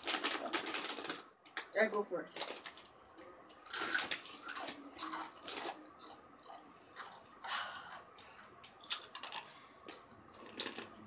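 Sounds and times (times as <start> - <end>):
chips crunching: 0.0 - 11.0.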